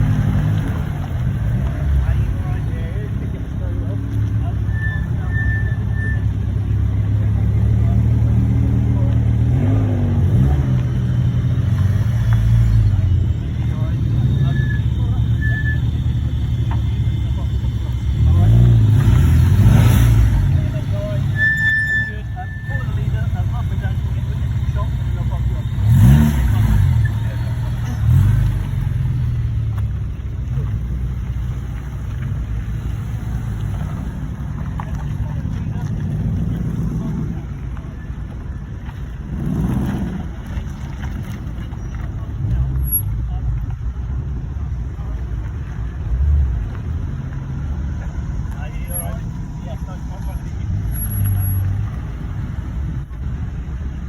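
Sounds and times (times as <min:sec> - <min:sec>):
car engine rumbling and revving: 0:00.0 - 0:54.0.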